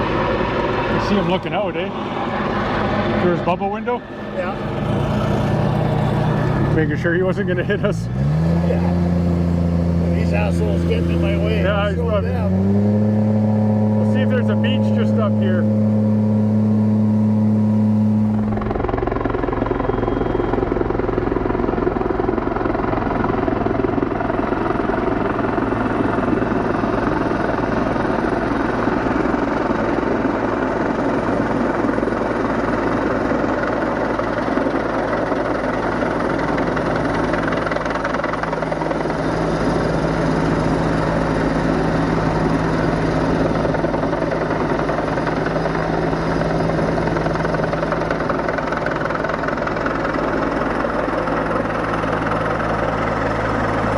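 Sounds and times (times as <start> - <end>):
jet boat engine running: 0.0 - 53.9.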